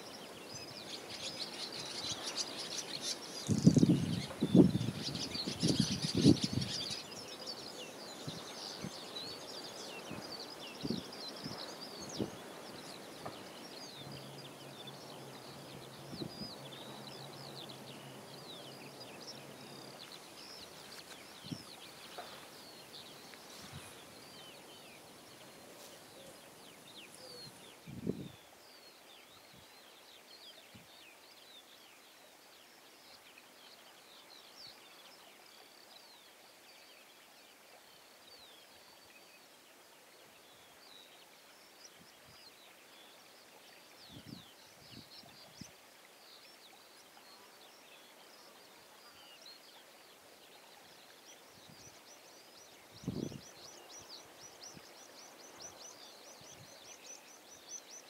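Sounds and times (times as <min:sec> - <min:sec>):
faint outdoor hiss: 0:00.0 - 0:58.0
small birds chirping: 0:00.0 - 0:58.0.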